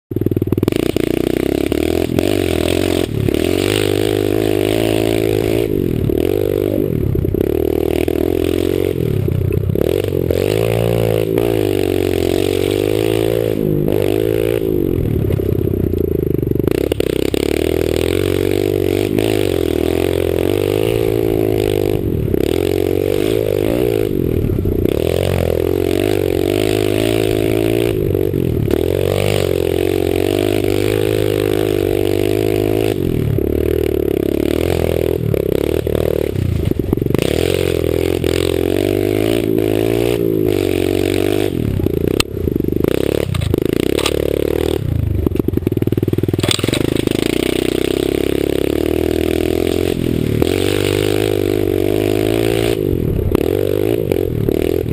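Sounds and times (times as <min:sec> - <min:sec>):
pit bike engine revving: 0:00.1 - 0:54.9.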